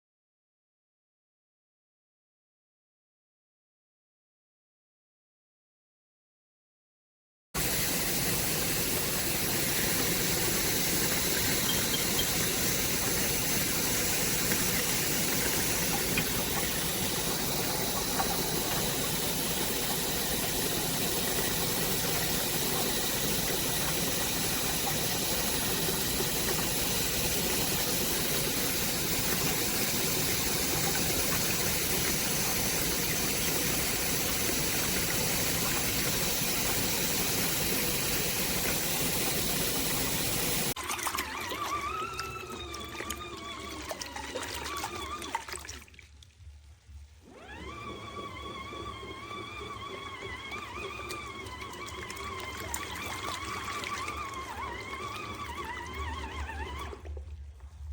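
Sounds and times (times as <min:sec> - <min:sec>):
washing machine motor hum: 0:07.6 - 0:57.9.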